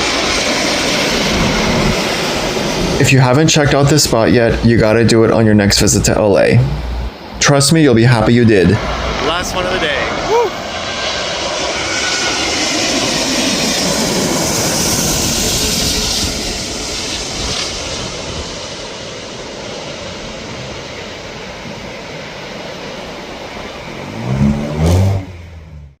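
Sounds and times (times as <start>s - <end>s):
jet airliner roar and whine: 0.0s - 26.0s.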